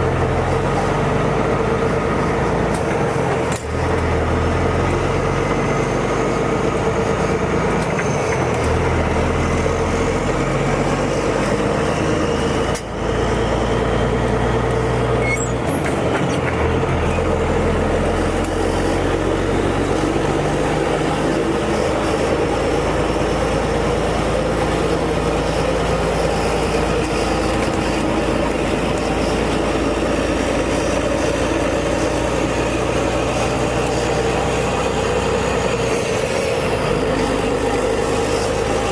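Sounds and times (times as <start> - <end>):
loud diesel truck engine: 0.0 - 38.9.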